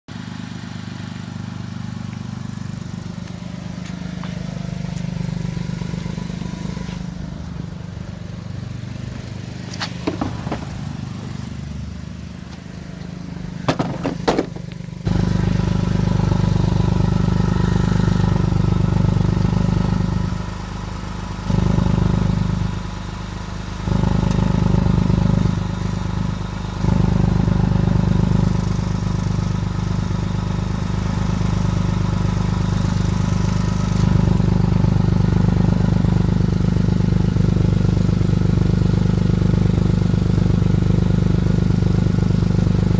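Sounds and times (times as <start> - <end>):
car exhaust drone: 0.1 - 42.9.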